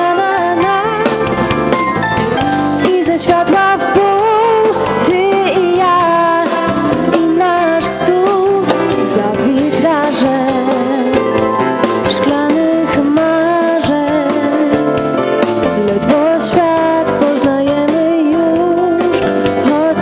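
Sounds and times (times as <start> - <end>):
woman singing: 0.0 - 1.4, 2.8 - 20.0
drum kit: 0.0 - 20.0
keyboard: 0.0 - 20.0.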